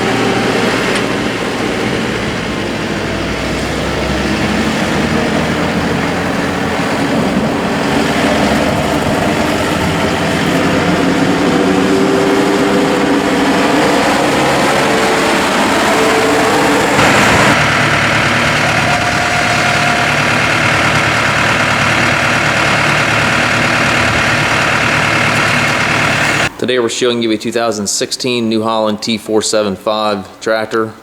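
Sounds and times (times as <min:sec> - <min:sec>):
tractor diesel engine running: 0:00.0 - 0:26.7.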